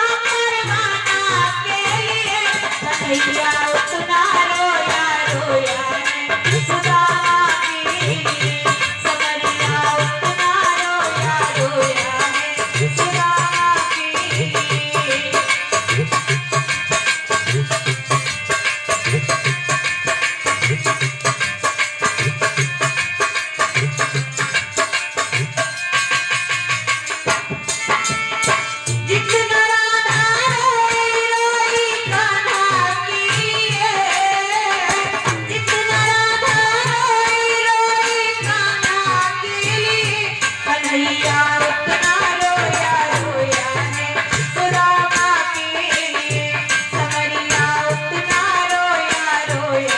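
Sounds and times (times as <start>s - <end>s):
hand drum rhythm: 0.6s - 49.9s.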